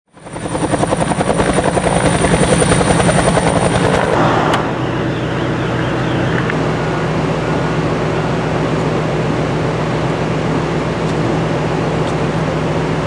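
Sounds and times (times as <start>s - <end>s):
helicopter rotor chop: 0.1s - 13.0s
high whine: 0.7s - 13.0s.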